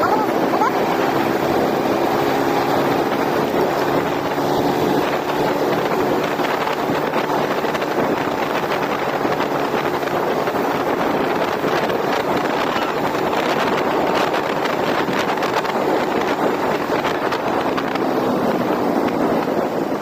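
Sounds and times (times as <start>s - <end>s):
scooter engine running: 0.0s - 20.0s
wind rushing over microphone: 0.0s - 20.0s.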